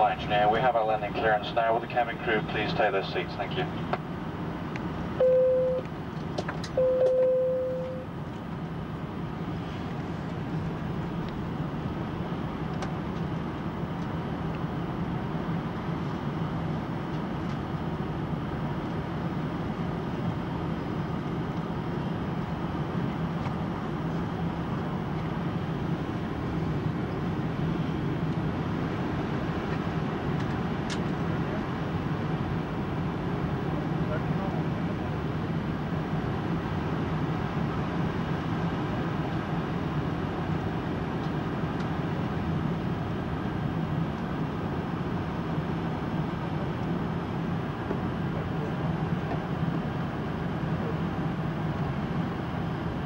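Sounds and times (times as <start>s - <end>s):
airliner cabin engine rush: 0.0s - 53.0s.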